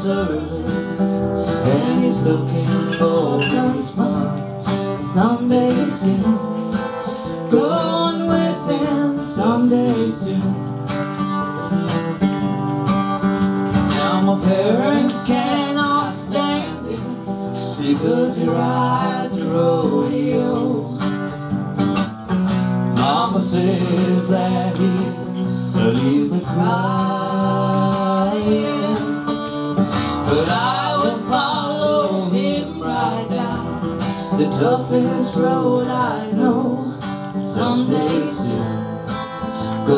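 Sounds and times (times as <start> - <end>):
man and woman singing: 0.0 - 12.0, 13.7 - 21.4, 22.9 - 39.9
strummed acoustic guitar: 0.0 - 39.9.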